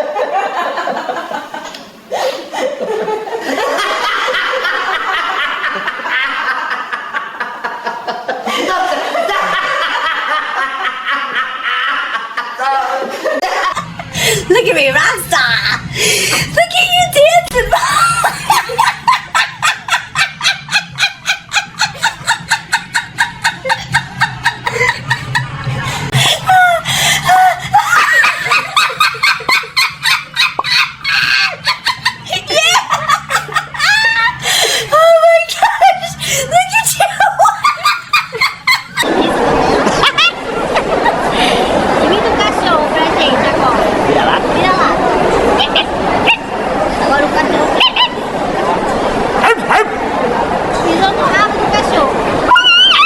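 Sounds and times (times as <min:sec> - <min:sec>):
people laughing loudly: 0:00.0 - 0:53.0.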